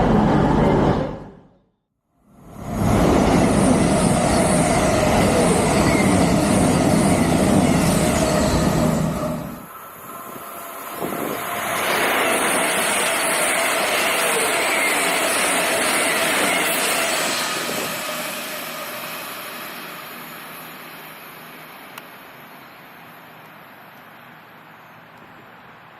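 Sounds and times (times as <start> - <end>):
train passing: 0.0 - 1.6, 2.2 - 25.9.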